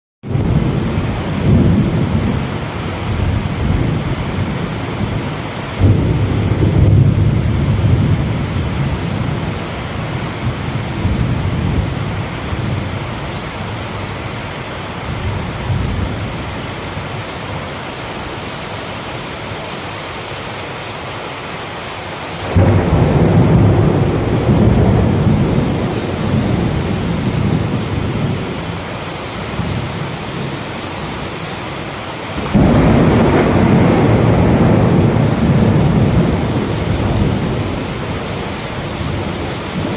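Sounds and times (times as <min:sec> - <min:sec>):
thunder rumbling: 0:00.2 - 0:19.8, 0:22.3 - 0:39.9
heavy rain falling: 0:00.2 - 0:39.9.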